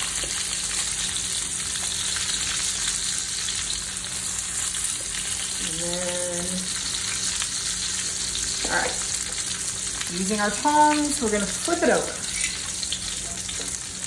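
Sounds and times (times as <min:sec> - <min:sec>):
steak sizzling in a pan: 0:00.0 - 0:14.0.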